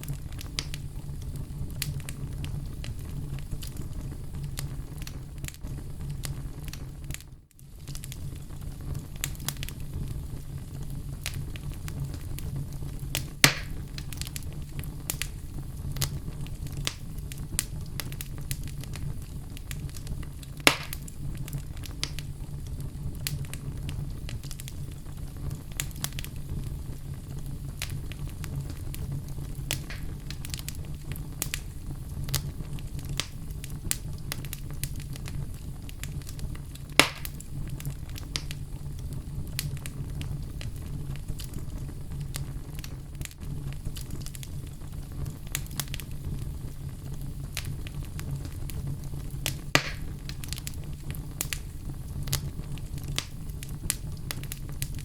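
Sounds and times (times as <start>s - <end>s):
fire crackling: 0.0s - 55.0s
loud fire pops: 0.0s - 55.0s
low flame rumble: 0.0s - 55.0s.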